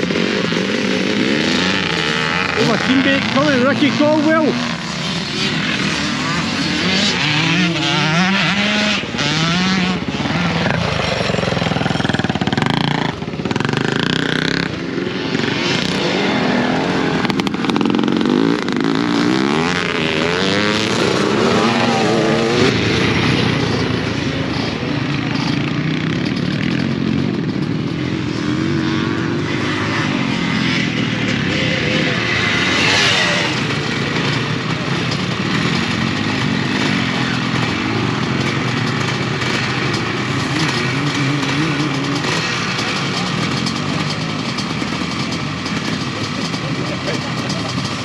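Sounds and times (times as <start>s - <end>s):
motocross bike engines revving: 0.0s - 48.0s.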